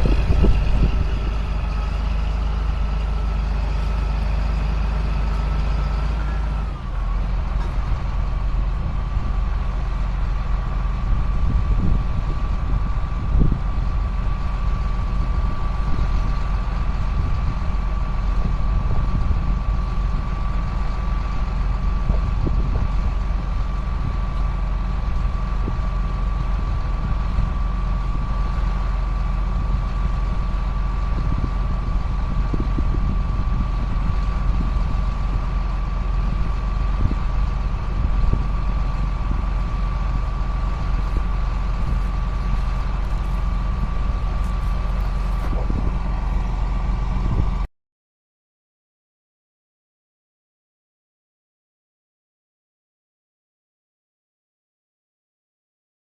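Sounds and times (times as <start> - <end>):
sprayer engine droning: 0.0 - 47.6.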